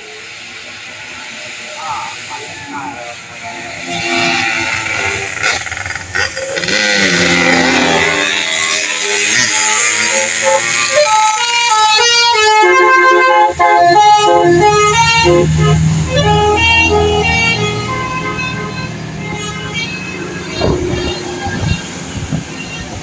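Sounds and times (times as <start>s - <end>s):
low engine rumble: 0.0s - 23.0s
bus horn playing a tune: 1.2s - 23.0s.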